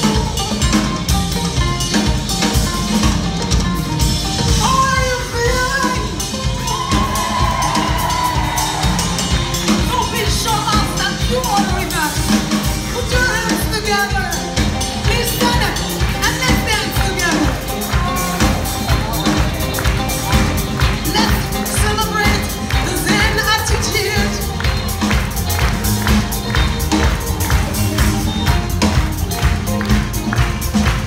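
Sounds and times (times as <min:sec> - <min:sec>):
drum kit groove: 0:00.0 - 0:31.0
electric bass: 0:00.0 - 0:31.0.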